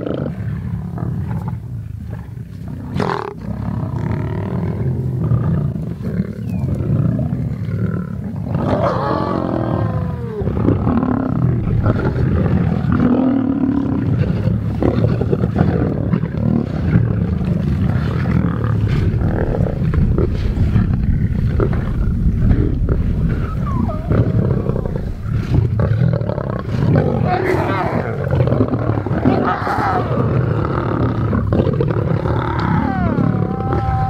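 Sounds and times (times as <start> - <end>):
lions growling and snarling: 0.0 - 34.0.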